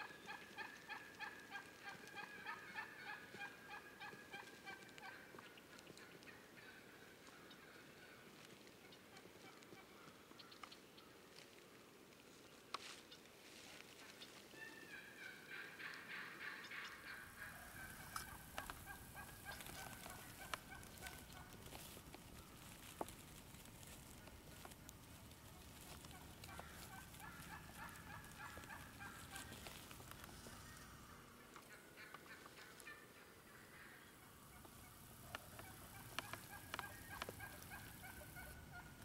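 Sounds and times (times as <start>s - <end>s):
distant turkeys gobbling: 0.0s - 11.2s, 14.0s - 39.0s.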